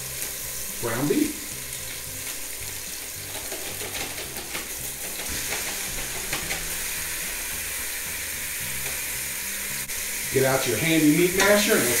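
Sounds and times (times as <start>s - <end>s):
oil and garlic sizzling: 0.0s - 12.0s.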